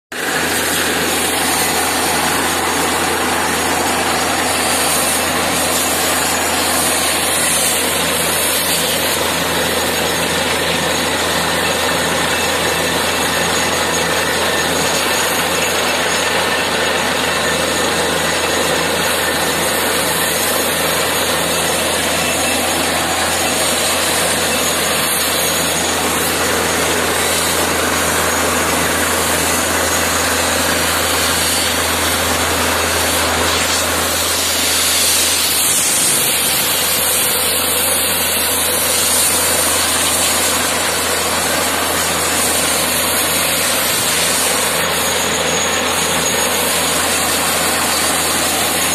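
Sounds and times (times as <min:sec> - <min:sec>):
drilling rig machine drone: 0:00.1 - 0:48.9.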